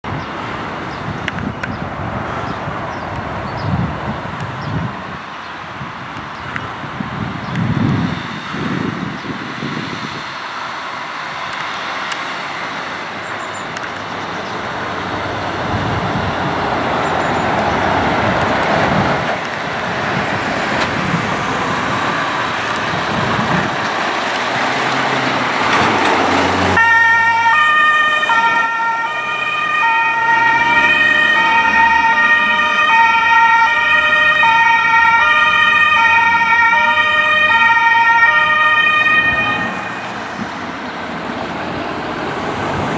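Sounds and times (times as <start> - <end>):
trucks and vans driving by: 0.0 - 42.9
two-tone emergency vehicle sirens: 3.8 - 42.9.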